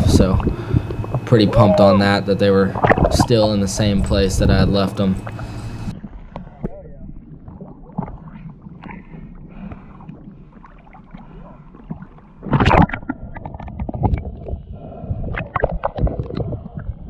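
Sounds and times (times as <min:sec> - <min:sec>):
muffled underwater gurgling: 0:00.0 - 0:17.0
water lapping and sloshing: 0:00.0 - 0:17.0.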